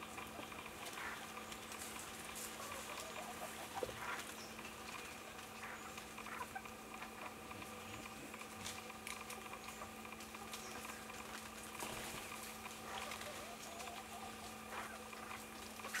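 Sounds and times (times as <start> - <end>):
steady low hum: 0.0 - 16.0
bird pecking in leaf litter: 0.4 - 6.7, 8.0 - 16.0.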